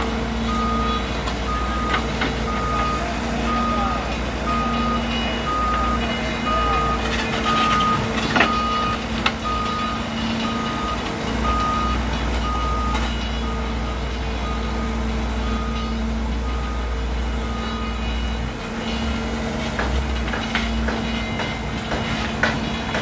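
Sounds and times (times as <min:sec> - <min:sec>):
diesel engine running: 0:00.0 - 0:23.0
reversing alarm beeping: 0:00.0 - 0:23.0.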